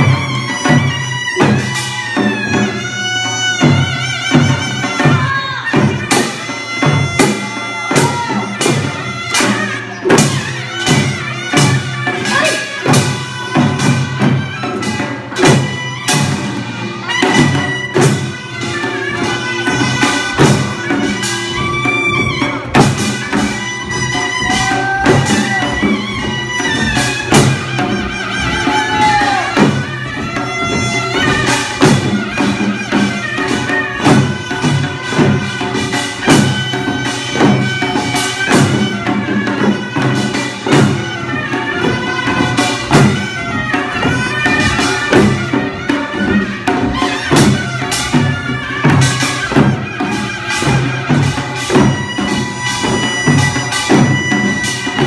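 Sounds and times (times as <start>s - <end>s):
drum strokes: 0.0s - 55.0s.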